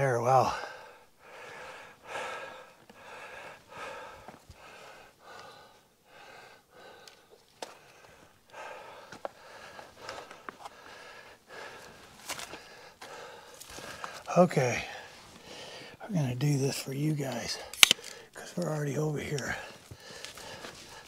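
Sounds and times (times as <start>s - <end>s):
heavy quick breathing: 0.5s - 16.0s, 19.5s - 21.0s.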